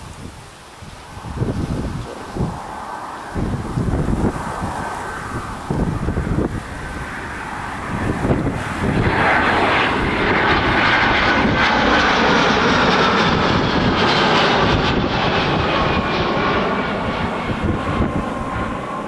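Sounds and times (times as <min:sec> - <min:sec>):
airliner engines passing close: 0:00.0 - 0:19.0.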